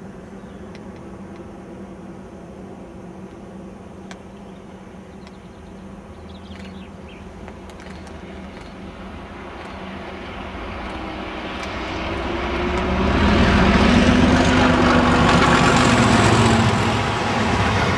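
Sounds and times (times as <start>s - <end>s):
diesel locomotives passing: 0.0s - 17.9s.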